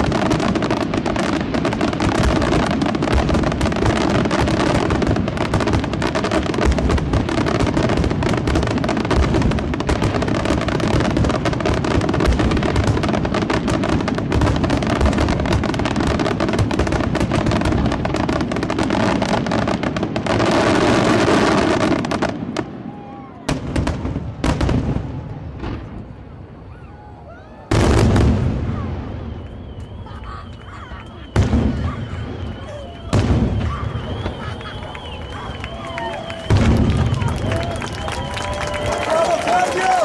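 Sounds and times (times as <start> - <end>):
fireworks bangs and crackle: 0.0 - 40.0.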